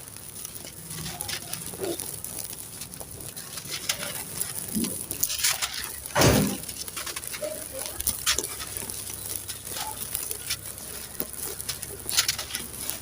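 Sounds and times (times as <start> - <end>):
loud crunch: 0.0 - 13.0
sand-cement crumbling: 0.0 - 13.0.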